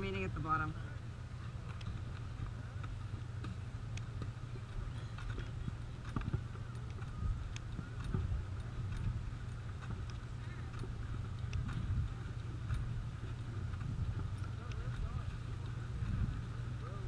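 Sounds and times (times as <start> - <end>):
wind buffeting microphone: 0.0 - 17.0
clicks and knocks of skis and poles: 1.6 - 16.2.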